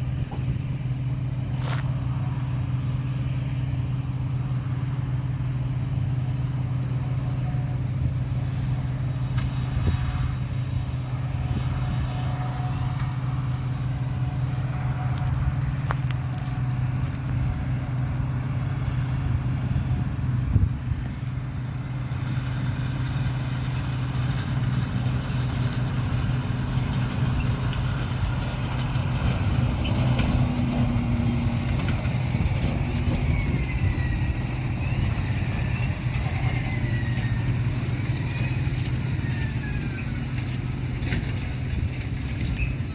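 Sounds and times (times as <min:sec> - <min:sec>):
diesel machinery engine drone: 0:00.0 - 0:42.9.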